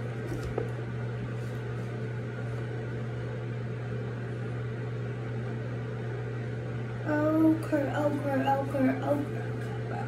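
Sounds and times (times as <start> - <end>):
low mechanical hum with hiss: 0.0 - 10.0.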